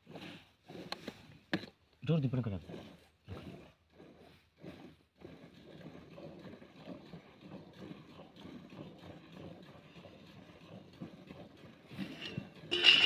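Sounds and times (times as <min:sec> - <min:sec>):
milk squirting into metal bucket: 0:00.0 - 0:13.0.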